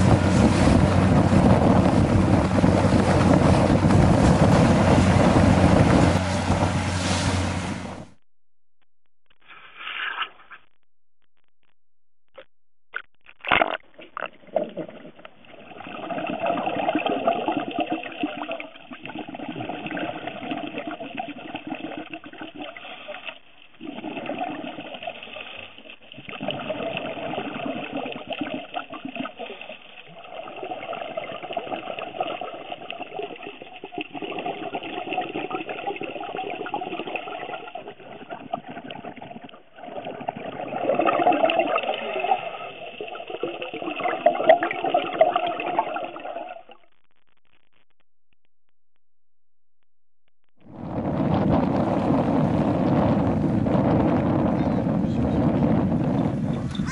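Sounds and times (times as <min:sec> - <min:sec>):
underwater bubbling: 0:00.0 - 0:06.8, 0:12.4 - 0:47.0, 0:50.6 - 0:56.9.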